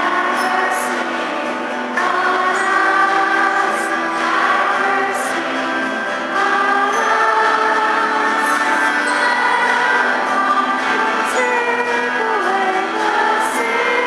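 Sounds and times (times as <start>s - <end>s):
children's choir singing a hymn: 0.0s - 14.0s
instrumental accompaniment: 0.0s - 14.0s.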